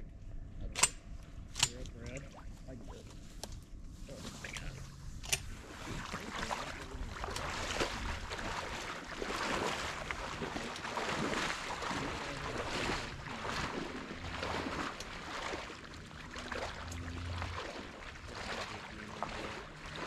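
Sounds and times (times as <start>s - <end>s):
water sloshing and splashing: 1.4s - 20.0s
wind rumble on microphone: 3.8s - 20.0s.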